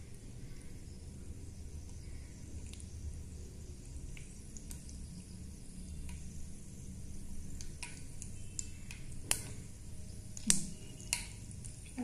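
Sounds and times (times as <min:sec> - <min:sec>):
mustard seeds popping in hot oil: 0:00.0 - 0:12.0.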